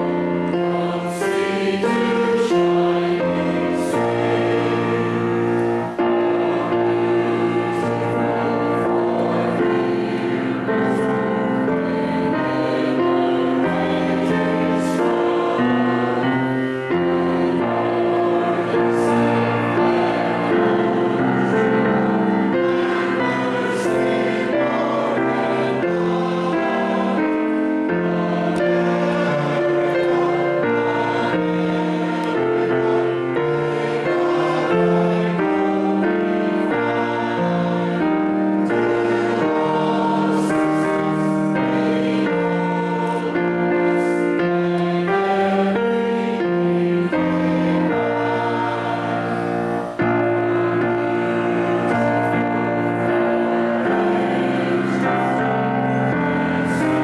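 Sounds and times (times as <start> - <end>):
keyboard chords: 0.0 - 57.0
voices singing a hymn: 0.0 - 57.0.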